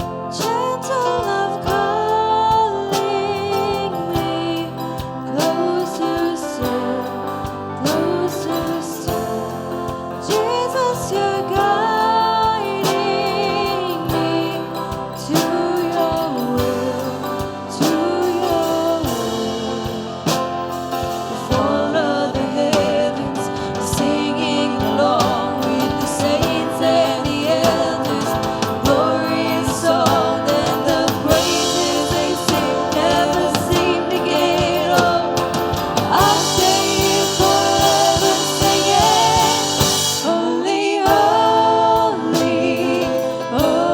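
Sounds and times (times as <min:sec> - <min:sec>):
band playing gospel song: 0:00.0 - 0:43.9
person singing: 0:00.0 - 0:43.9.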